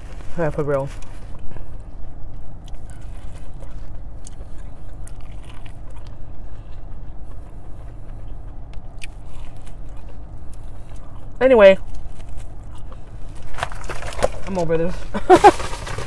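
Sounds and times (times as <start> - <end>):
chewing and biting corn: 0.0 - 16.0
low hum in car cabin: 0.0 - 16.0.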